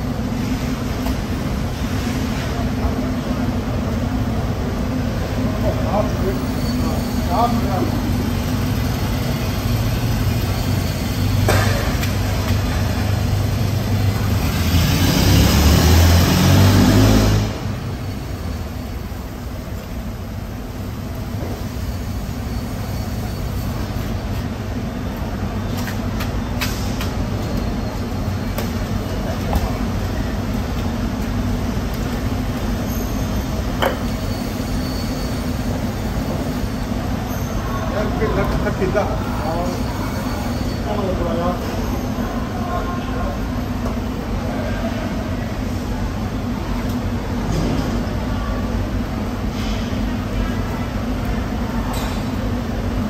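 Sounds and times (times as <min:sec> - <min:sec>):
low mechanical rumble and hum: 0:00.0 - 0:53.0.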